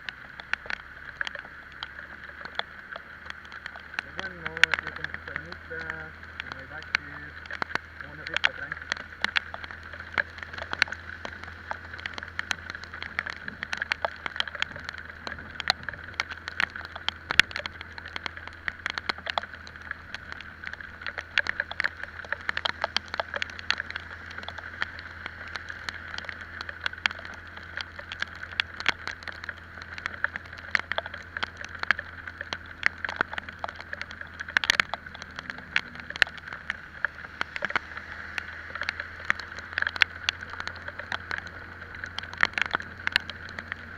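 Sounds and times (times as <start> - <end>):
rain ticking on microphone: 0.0 - 43.9.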